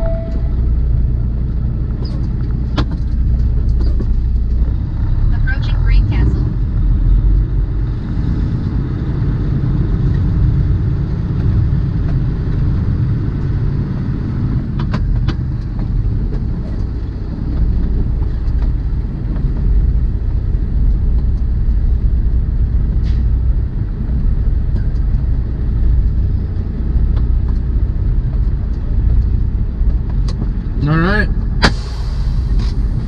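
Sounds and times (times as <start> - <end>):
road noise inside cab: 0.0 - 33.0
truck engine rumble: 0.0 - 33.0.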